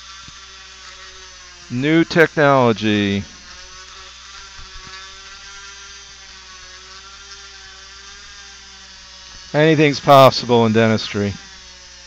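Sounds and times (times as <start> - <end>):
dental drill whirring and whining: 0.0 - 12.0.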